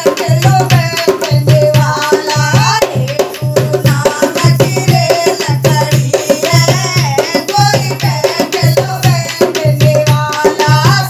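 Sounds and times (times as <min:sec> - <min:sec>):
women singing: 0:00.0 - 0:11.0.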